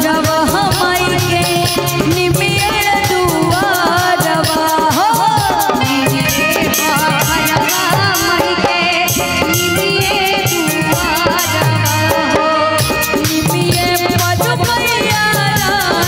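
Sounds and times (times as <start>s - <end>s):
hand drum beat: 0.0s - 16.0s
jingling percussion: 0.0s - 16.0s
keyboard: 0.0s - 16.0s
woman singing into microphone: 0.0s - 16.0s.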